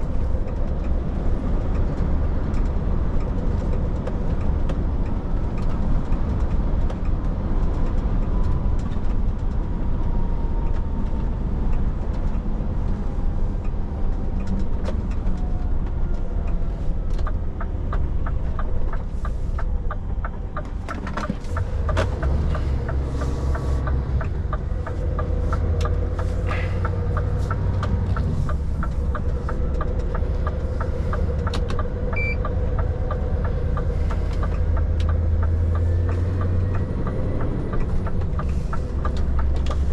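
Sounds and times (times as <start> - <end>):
truck diesel engine rumble: 0.0 - 8.4, 9.2 - 39.9
road noise: 0.0 - 39.9.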